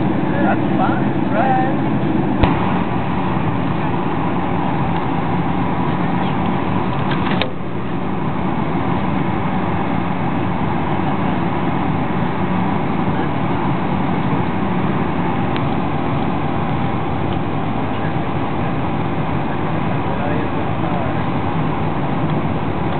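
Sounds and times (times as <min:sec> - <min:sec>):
jet engines and airflow rushing: 0:00.0 - 0:22.9.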